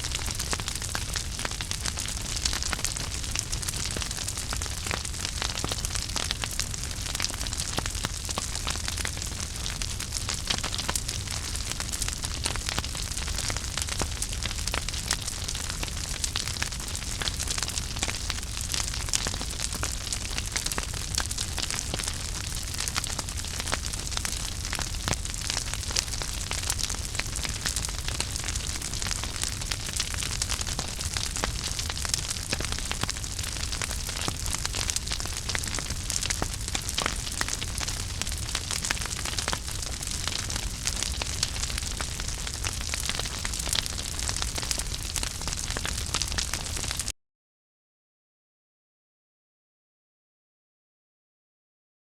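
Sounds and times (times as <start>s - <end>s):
flames hissing and rumbling: 0.1s - 47.1s
wood fire crackling and popping: 0.1s - 47.1s.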